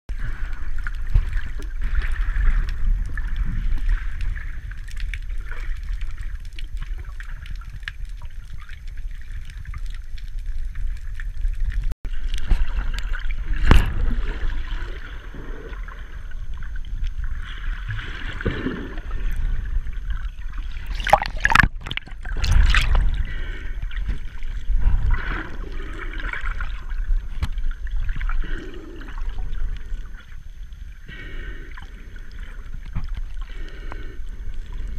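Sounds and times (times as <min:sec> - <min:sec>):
muffled underwater water sloshing: 0:00.1 - 0:34.9
steady low rumble: 0:00.1 - 0:34.9.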